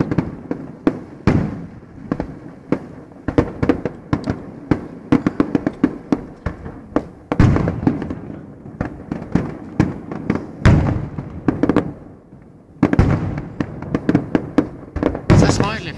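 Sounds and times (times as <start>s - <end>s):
firework shell-burst booms: 0.0s - 12.2s, 12.8s - 15.9s
fireworks bangs and crackles: 0.0s - 15.9s.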